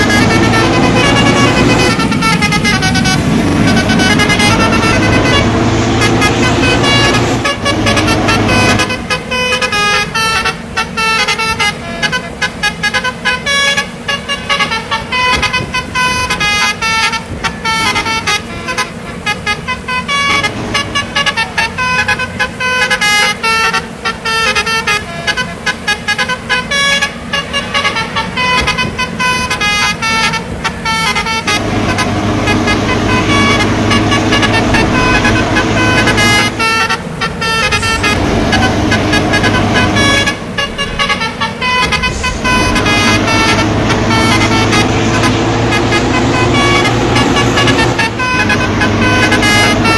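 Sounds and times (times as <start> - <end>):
bus engine: 0.0 - 49.9
musical air horn: 0.0 - 49.9.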